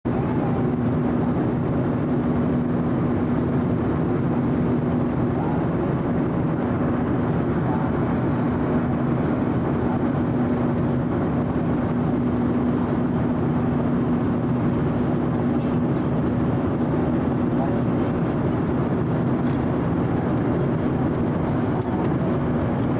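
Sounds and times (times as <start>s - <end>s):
jet engines droning: 0.1s - 22.9s
rush of cabin airflow: 0.1s - 22.9s.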